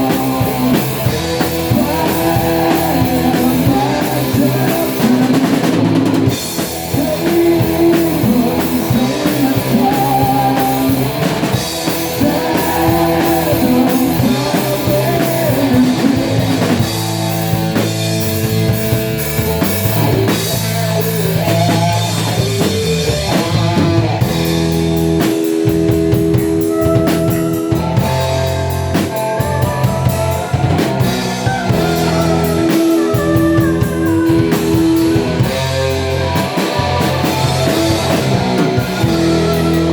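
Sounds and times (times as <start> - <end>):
drum kit: 0.0 - 39.9
guitar chords: 0.0 - 39.9
rock band playing: 0.0 - 39.9.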